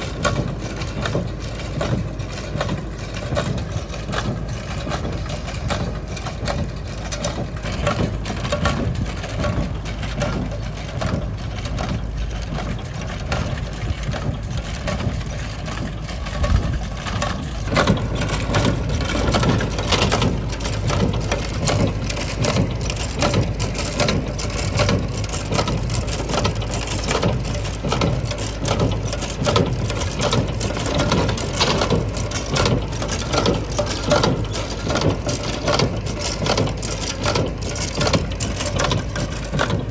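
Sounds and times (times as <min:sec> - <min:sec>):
baler clattering: 0:00.0 - 0:39.9
tractor engine drone: 0:00.0 - 0:39.9.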